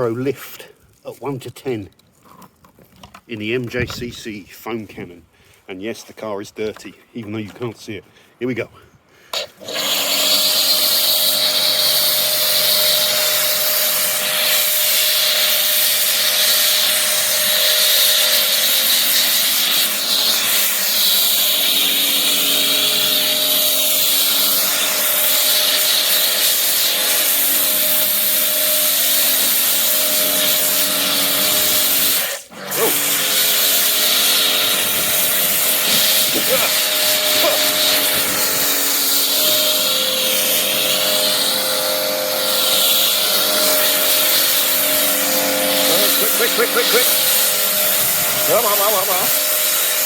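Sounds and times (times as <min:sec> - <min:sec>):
foam spray hiss: 0:09.4 - 0:50.0
pressure washer motor drone: 0:09.6 - 0:50.0.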